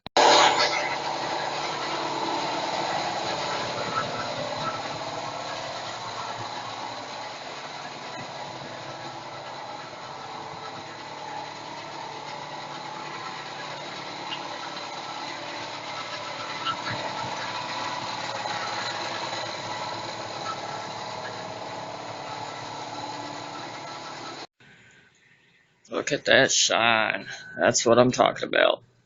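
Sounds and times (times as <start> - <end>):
motor running: 0.2 - 24.5.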